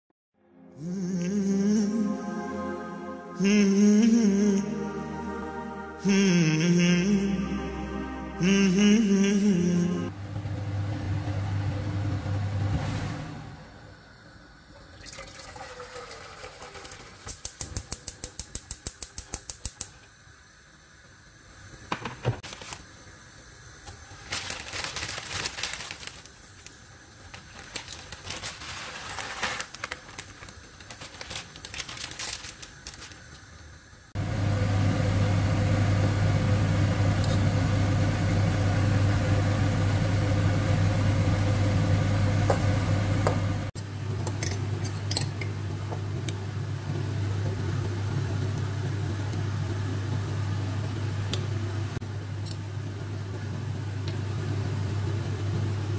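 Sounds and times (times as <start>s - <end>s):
pot at rolling boil: 10.1s - 55.9s.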